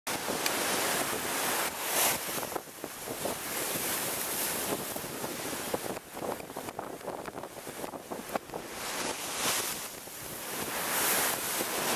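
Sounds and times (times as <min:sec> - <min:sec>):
sea waves crashing against a wall: 0:00.1 - 0:11.9.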